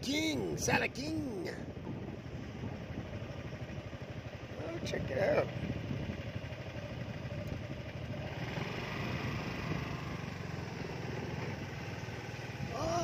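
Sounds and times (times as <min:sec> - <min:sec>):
motor scooter engine running: 0:00.0 - 0:13.0
road and wind noise: 0:00.0 - 0:13.0.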